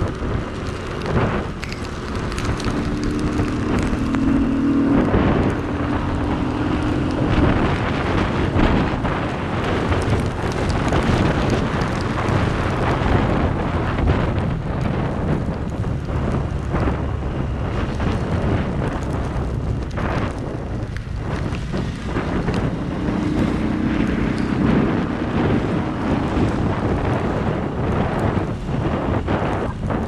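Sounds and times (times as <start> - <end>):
heavy rain pouring: 0.0 - 30.0
wind noise on microphone: 0.0 - 30.0.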